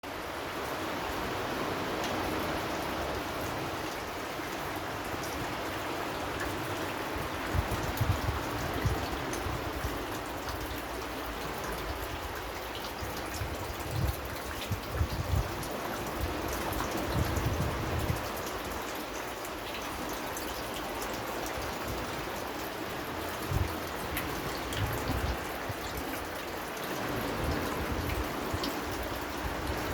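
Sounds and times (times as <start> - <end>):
steady rain: 0.0 - 29.9.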